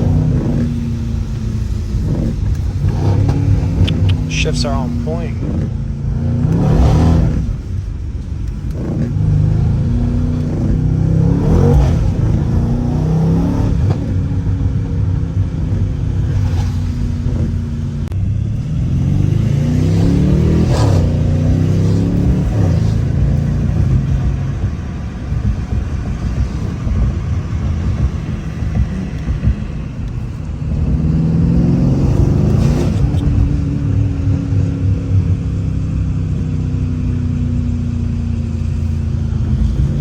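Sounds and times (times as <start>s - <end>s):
car engine accelerating through gears: 0.0s - 40.0s.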